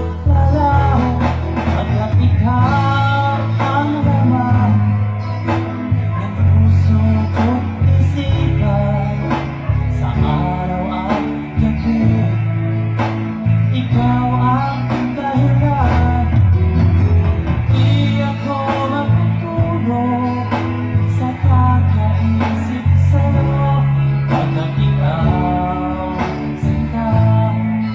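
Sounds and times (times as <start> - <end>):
guitar: 0.0 - 27.9
heavy bass line: 0.0 - 27.9
man singing: 0.0 - 27.9.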